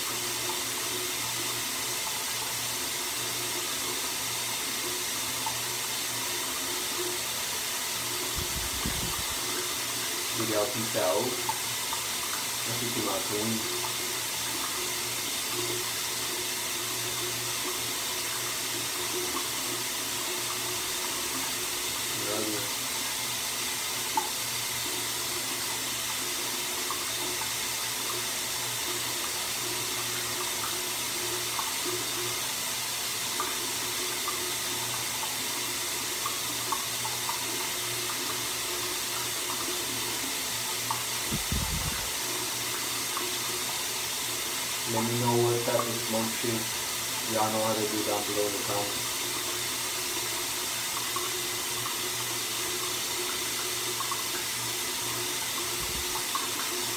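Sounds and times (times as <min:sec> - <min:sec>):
running water hiss: 0:00.0 - 0:56.9.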